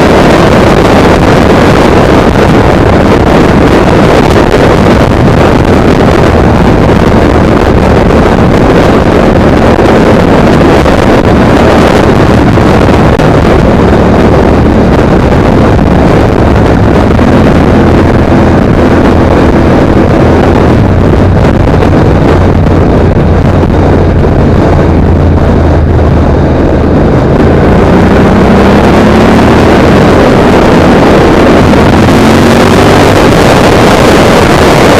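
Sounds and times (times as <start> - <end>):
motorcycle engine running: 0.0 - 34.9
wind buffeting microphone: 0.0 - 34.9.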